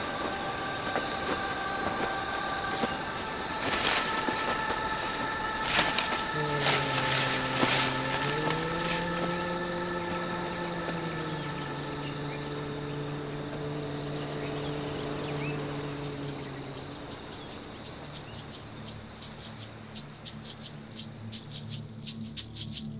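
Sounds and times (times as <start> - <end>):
jungle ambience: 0.0 - 22.9
low drone film score notes: 0.0 - 22.9.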